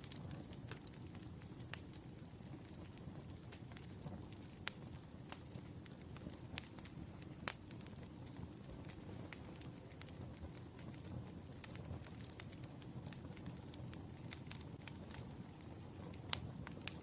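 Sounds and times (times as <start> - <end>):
burning logs rustling: 0.0 - 17.0
fire popping: 0.0 - 17.0.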